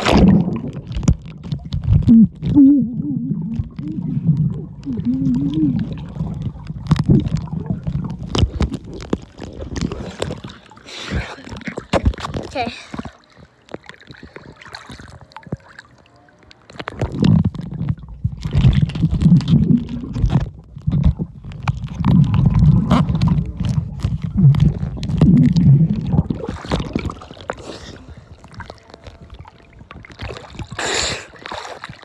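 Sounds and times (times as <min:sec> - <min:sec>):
underwater clicks: 0:00.0 - 0:32.0
underwater rumbling and gurgling: 0:00.0 - 0:32.0
water splash: 0:00.0 - 0:32.0.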